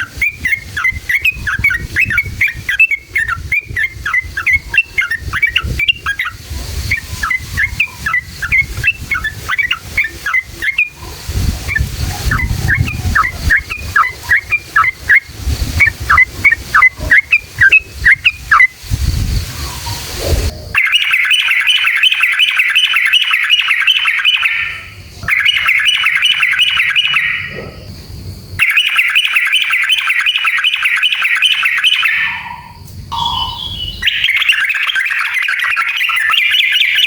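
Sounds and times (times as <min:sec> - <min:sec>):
bird singing chattering song: 0:00.0 - 0:27.9, 0:28.6 - 0:37.0.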